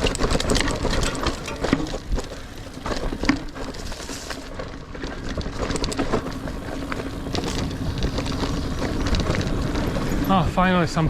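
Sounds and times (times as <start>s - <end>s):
bike clicks and rattles: 0.0s - 11.0s
bike tyre noise on dirt: 0.0s - 11.0s.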